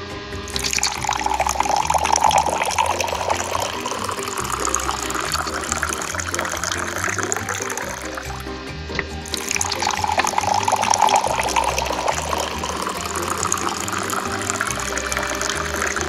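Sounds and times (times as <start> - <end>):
background music: 0.0 - 16.0
juice pouring into glass: 0.5 - 8.5, 9.2 - 16.0.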